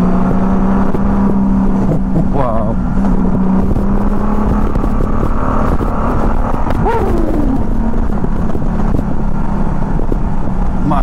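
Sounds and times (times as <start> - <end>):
motorcycle engine cruising: 0.0 - 11.0
rushing wind: 0.0 - 11.0.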